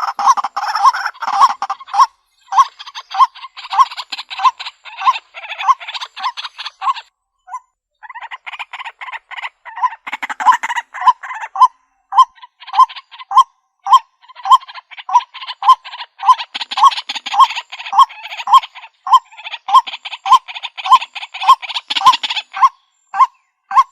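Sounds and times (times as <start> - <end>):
waterhen croaking calls: 0.0 - 23.9.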